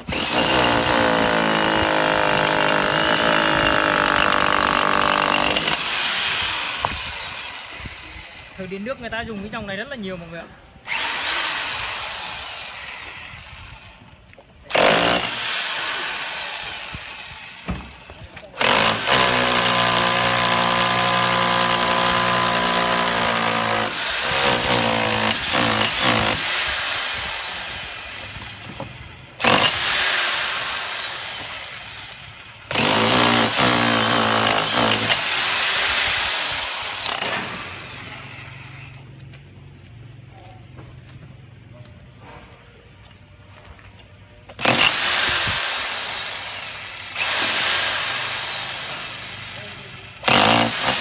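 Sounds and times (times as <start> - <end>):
hammer drill boring into masonry: 0.0 - 8.8, 10.8 - 14.0, 14.7 - 18.0, 18.6 - 38.9, 44.6 - 51.0.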